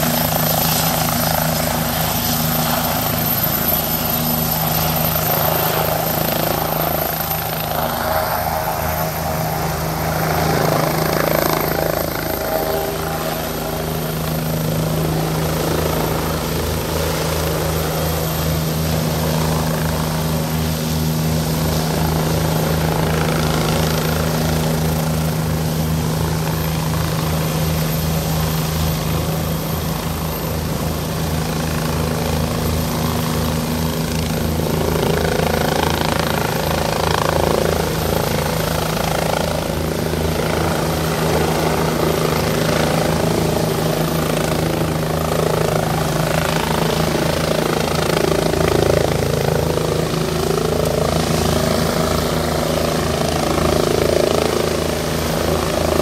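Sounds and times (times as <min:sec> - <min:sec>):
helicopter rotor beat: 0:00.0 - 0:56.0
helicopter turbine whine: 0:00.0 - 0:56.0.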